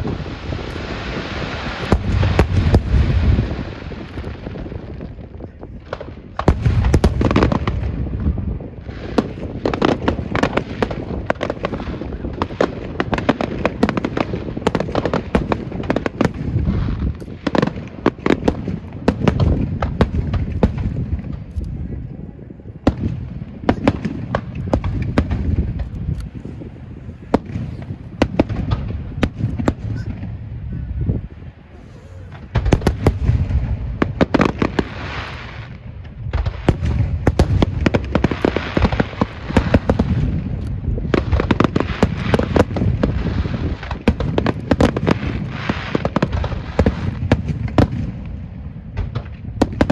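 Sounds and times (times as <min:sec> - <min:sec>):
deep fireworks booms: 0:00.0 - 0:49.9
fireworks crackling and banging: 0:00.0 - 0:49.9.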